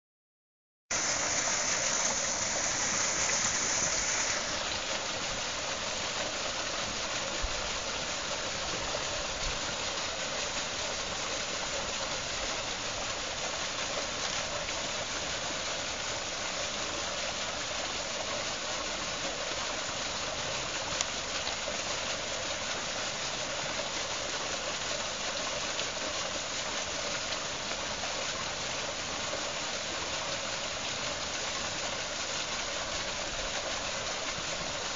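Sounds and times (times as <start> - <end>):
water splashing from hose: 0.9 - 34.9.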